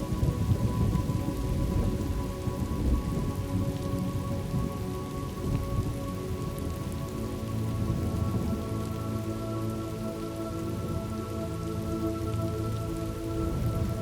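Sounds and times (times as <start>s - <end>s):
soft held drone: 0.0s - 14.0s
steady rain: 0.0s - 14.0s.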